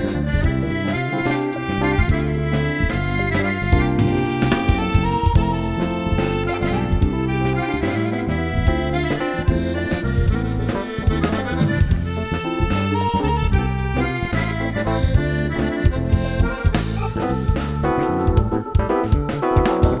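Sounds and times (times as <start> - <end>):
accordion melody: 0.0 - 20.0
bass: 0.0 - 20.0
steady drum beat: 0.0 - 20.0.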